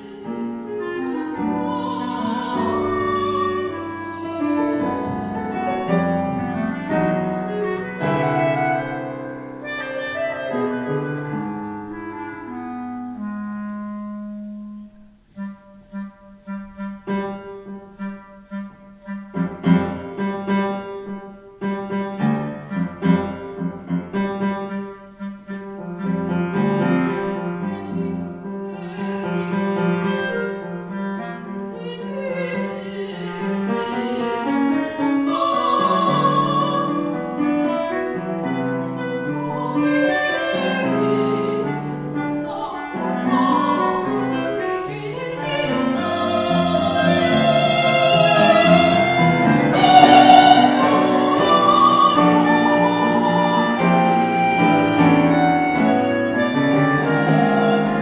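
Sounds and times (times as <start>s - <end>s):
clarinet: 0.0s - 58.0s
piano: 0.0s - 58.0s.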